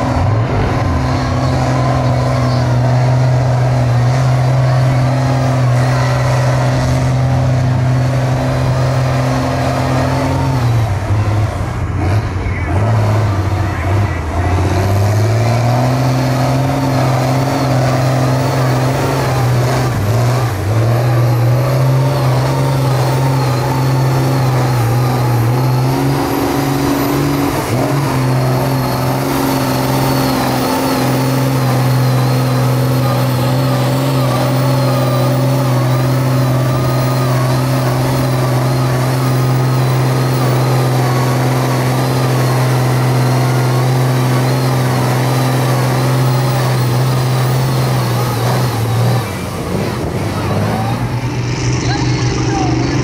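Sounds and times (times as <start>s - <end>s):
truck churning through mud: 0.0s - 53.0s
truck engine pulling: 0.0s - 53.0s.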